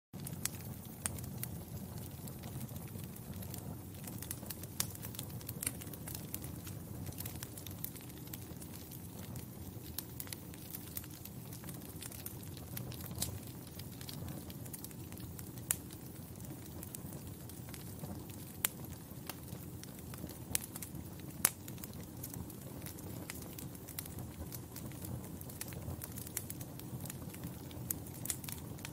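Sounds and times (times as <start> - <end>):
log fire crackling and popping: 0.2 - 28.9.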